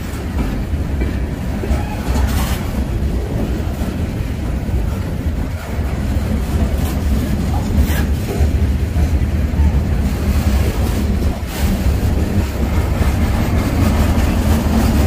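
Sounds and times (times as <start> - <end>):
freight train rumbling past: 0.0 - 15.0
wind buffeting microphone: 0.0 - 15.0.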